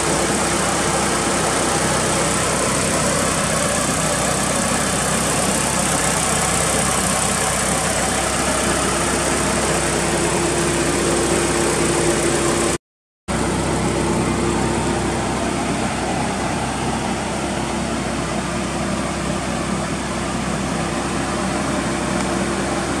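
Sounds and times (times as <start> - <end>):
car engine idling: 0.0 - 12.8, 13.4 - 23.0.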